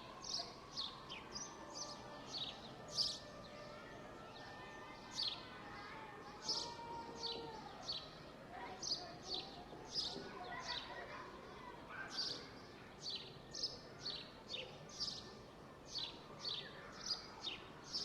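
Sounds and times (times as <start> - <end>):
songbirds chirping: 0.0 - 5.5, 6.3 - 18.0.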